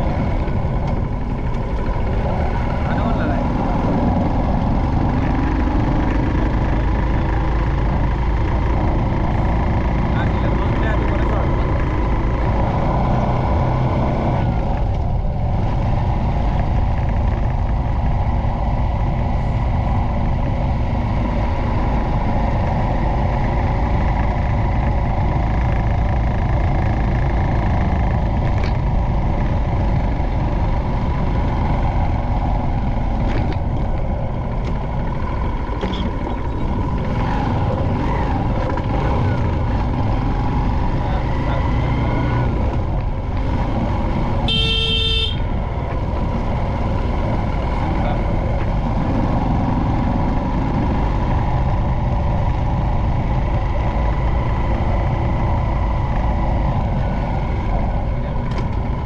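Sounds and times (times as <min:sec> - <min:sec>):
motorcycle running: 0:00.0 - 0:59.0
wind rumble on microphone: 0:00.0 - 0:59.0.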